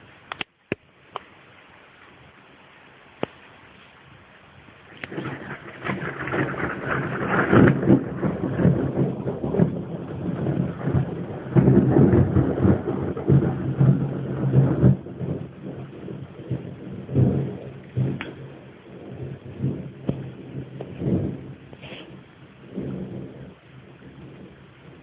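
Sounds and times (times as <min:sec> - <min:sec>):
thunder crack and rumble: 0:04.9 - 0:25.0.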